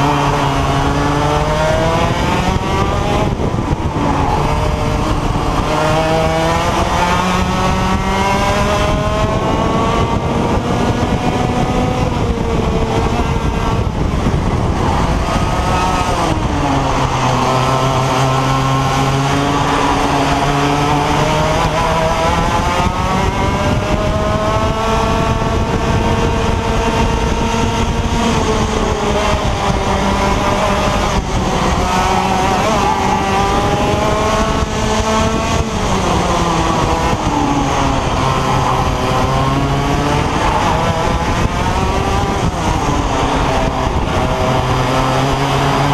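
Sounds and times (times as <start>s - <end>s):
kart engine revving: 0.0s - 45.9s.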